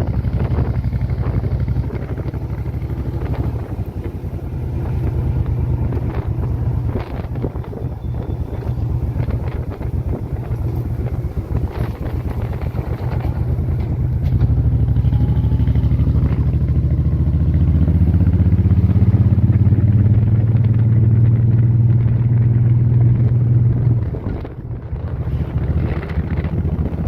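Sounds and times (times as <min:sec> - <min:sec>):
motorcycle engine droning: 0:00.0 - 0:27.0.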